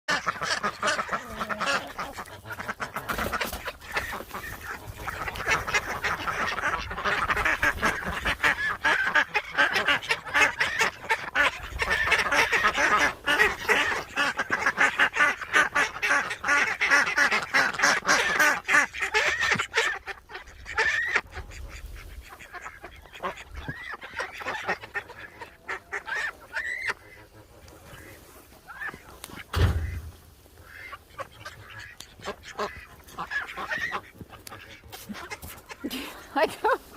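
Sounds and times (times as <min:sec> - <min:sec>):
ducks quacking: 0:00.1 - 0:36.9.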